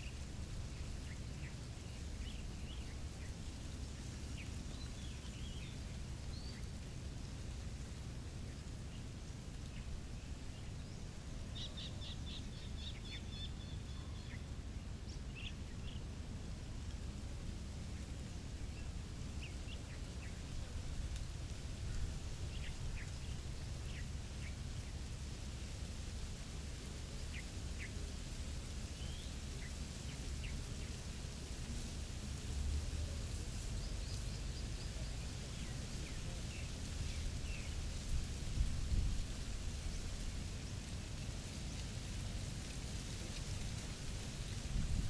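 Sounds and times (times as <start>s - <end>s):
low outdoor rumble: 0.0s - 45.0s.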